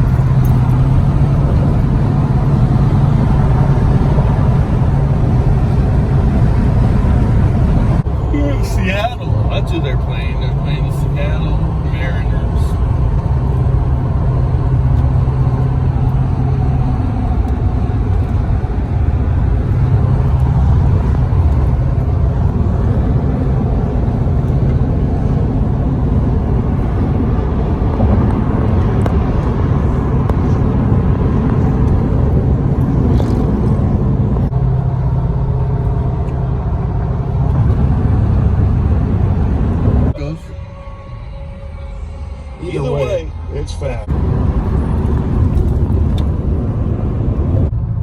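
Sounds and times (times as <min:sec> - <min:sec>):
large vehicle engine rumbling: 0:00.0 - 0:48.0.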